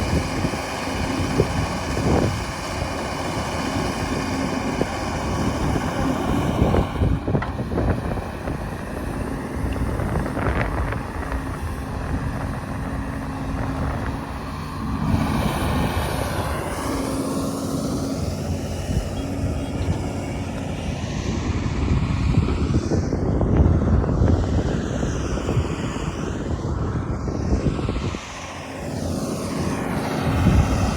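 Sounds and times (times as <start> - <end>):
excavator diesel engine running: 0.0 - 26.6, 28.2 - 30.9.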